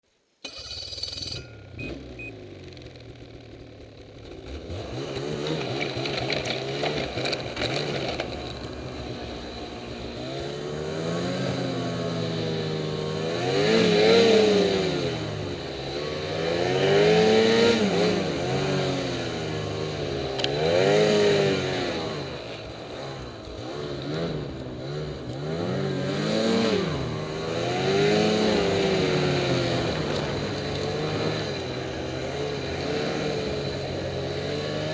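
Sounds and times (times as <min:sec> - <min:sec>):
snowmobile engine revving: 0:00.4 - 0:34.9.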